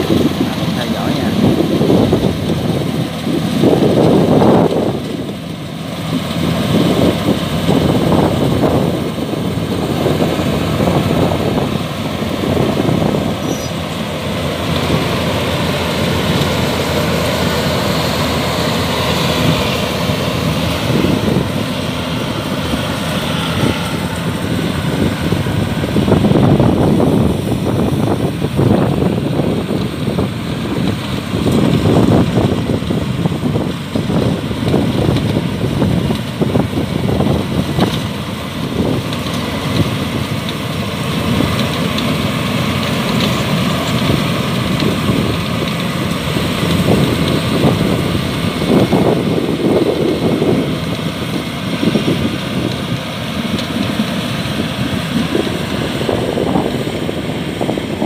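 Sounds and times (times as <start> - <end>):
combine harvester engine: 0.0 - 58.0
cutter and threshing drum churning: 0.0 - 58.0.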